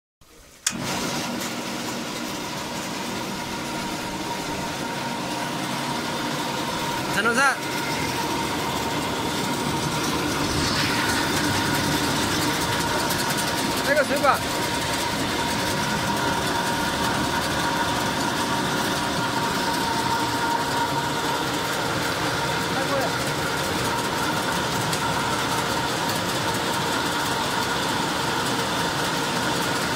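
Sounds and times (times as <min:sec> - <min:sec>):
machinery hum with high whine: 0:00.3 - 0:29.9
vibrating mesh screen: 0:01.2 - 0:29.4.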